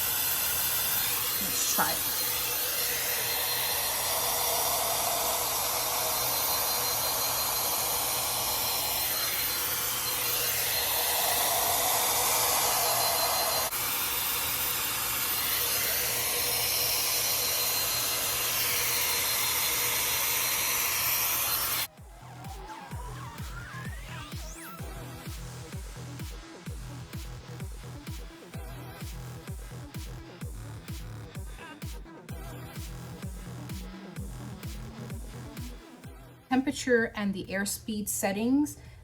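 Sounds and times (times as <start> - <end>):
hair dryer blowing: 0.0 - 36.2.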